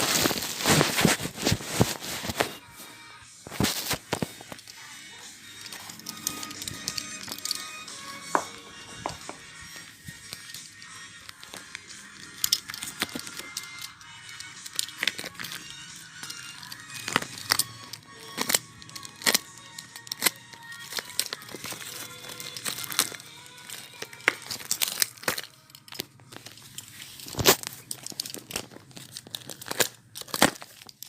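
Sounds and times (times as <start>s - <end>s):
plastic packaging crinkling and tearing: 0.0s - 2.6s, 3.5s - 4.8s, 9.1s - 31.0s
background music: 0.1s - 30.7s.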